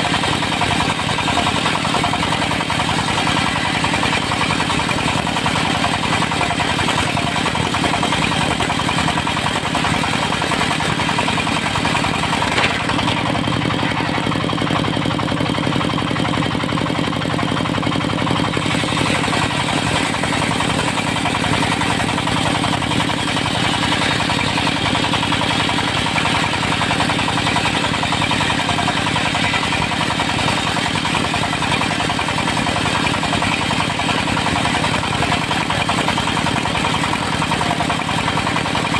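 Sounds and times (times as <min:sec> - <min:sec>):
portable sawmill engine running: 0:00.0 - 0:38.9.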